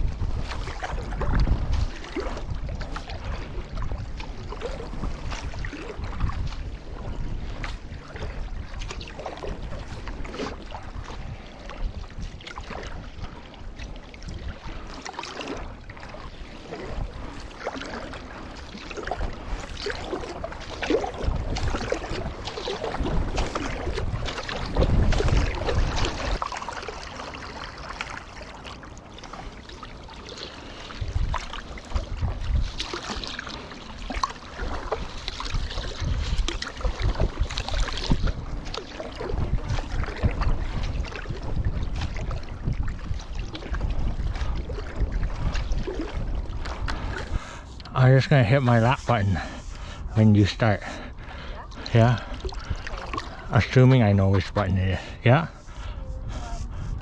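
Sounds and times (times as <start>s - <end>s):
wind buffeting camera: 0.0s - 27.0s, 30.7s - 57.0s
paddle strokes and water splashing: 0.0s - 57.0s.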